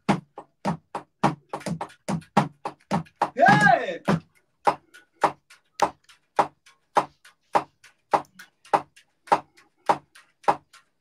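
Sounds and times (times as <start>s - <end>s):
drum kit steady beat: 0.0s - 11.0s.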